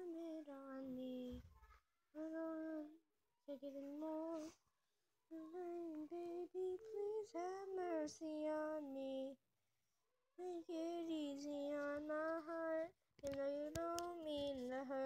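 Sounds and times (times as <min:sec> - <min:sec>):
child singing unaccompanied: 0:00.0 - 0:04.6, 0:05.3 - 0:09.4, 0:10.4 - 0:15.0.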